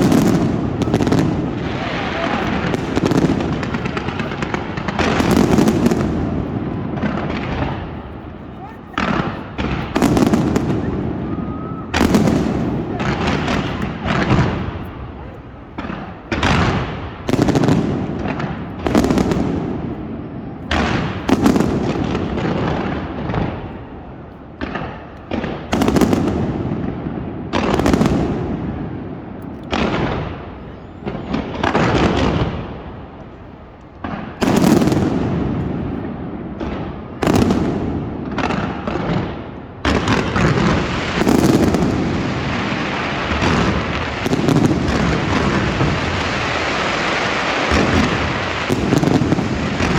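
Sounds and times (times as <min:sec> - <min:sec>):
fireworks bangs and crackle: 0:00.0 - 0:49.9.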